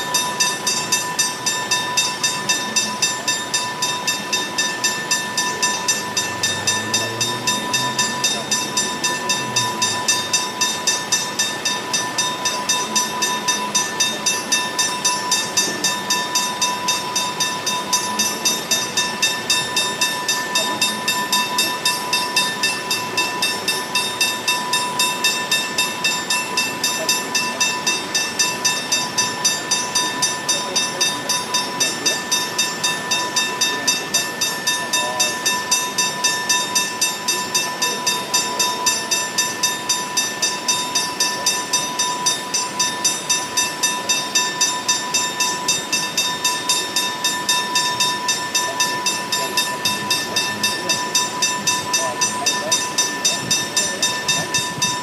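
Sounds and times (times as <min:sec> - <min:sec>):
level crossing warning bell: 0:00.0 - 0:55.0.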